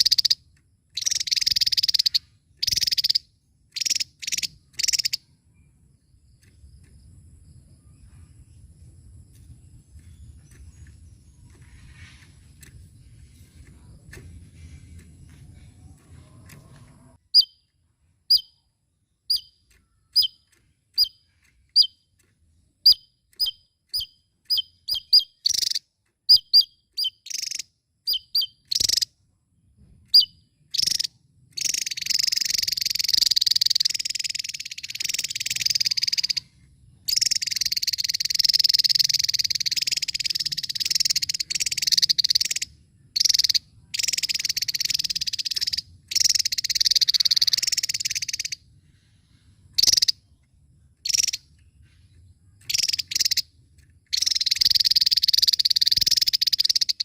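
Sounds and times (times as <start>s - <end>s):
bird chirping high: 0.0s - 29.2s, 30.1s - 57.0s.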